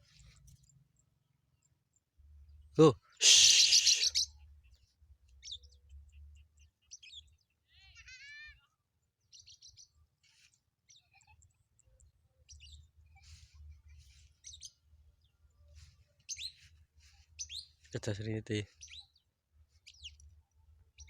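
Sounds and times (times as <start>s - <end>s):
faint bird chirping: 0.0s - 21.0s.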